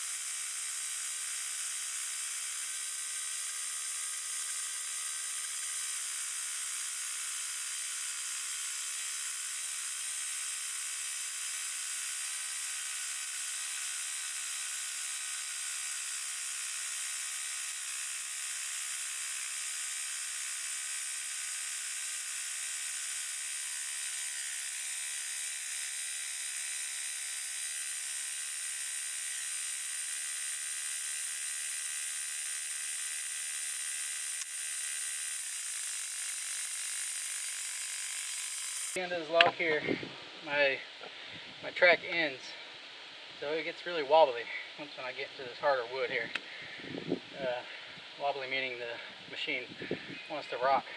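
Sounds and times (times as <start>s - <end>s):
saw blade cutting log: 0.0s - 41.2s.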